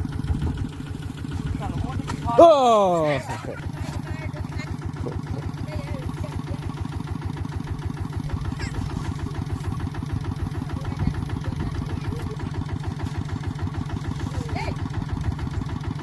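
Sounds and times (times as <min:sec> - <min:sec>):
diesel engine throbbing: 0:00.0 - 0:16.0.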